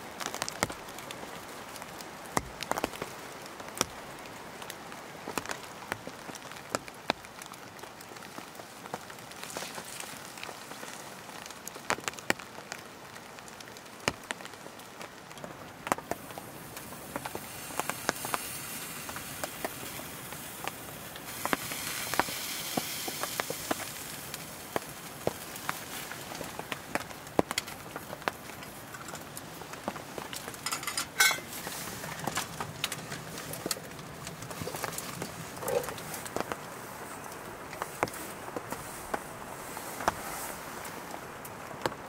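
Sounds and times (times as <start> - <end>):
firewood crackling: 0.0 - 42.0
rain pattering on tent: 0.0 - 42.0.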